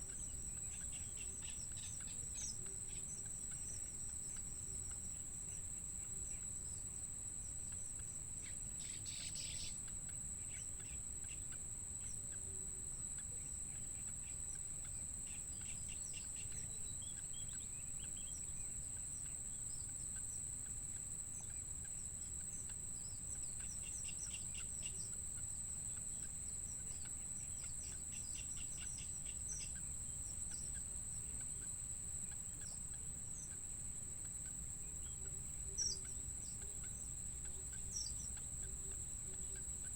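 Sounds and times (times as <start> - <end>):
high insect drone: 0.0 - 39.9
rapid bird chirps: 0.0 - 39.9.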